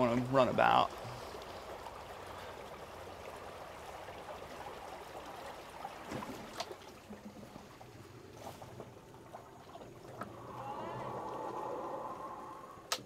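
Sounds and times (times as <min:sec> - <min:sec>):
water trickling and lapping: 0:00.0 - 0:13.0.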